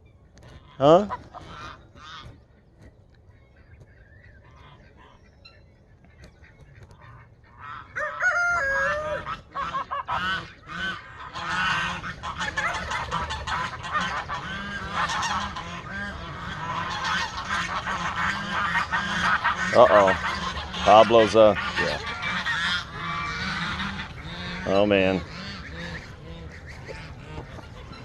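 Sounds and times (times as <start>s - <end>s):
geese honking: 0.4s - 2.6s, 3.2s - 28.0s.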